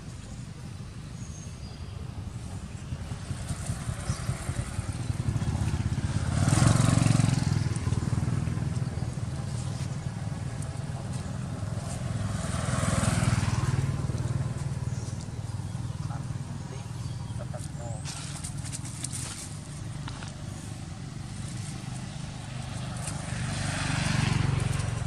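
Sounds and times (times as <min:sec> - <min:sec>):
low engine hum: 0:00.0 - 0:25.0
vehicles passing by: 0:00.0 - 0:25.0.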